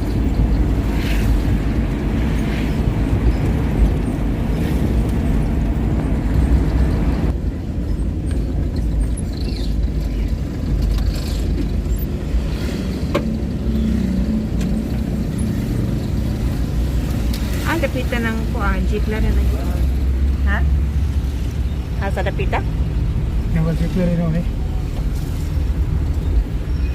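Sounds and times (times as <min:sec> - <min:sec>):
vehicle engine and road rumble: 0:00.0 - 0:26.9.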